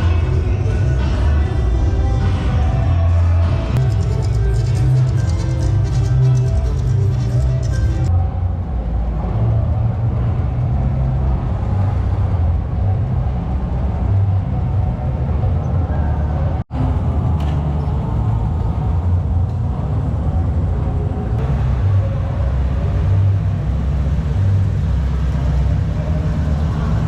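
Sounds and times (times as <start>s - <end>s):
car engines droning: 0.0s - 27.0s.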